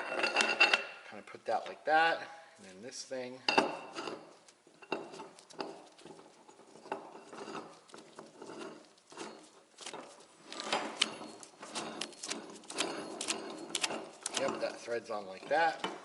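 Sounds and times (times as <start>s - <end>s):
metal parts clinking and scraping: 0.0s - 0.9s, 3.5s - 16.0s.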